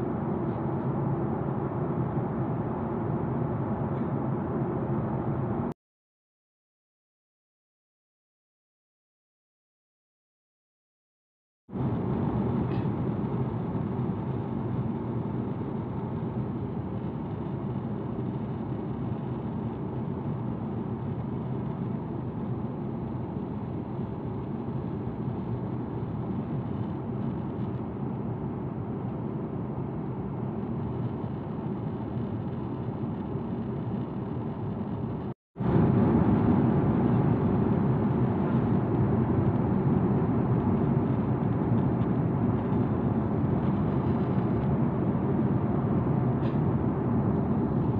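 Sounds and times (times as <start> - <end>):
jet engines droning: 0.0 - 5.7, 11.8 - 47.9.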